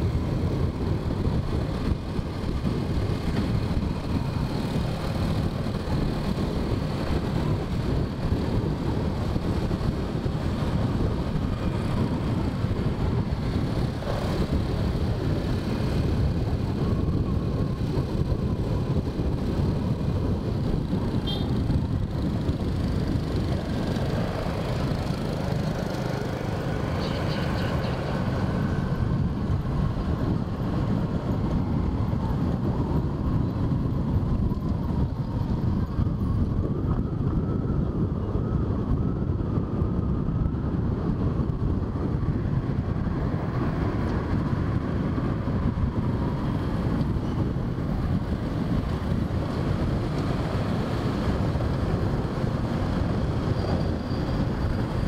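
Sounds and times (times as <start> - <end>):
wind on the microphone: 0.0 - 55.0.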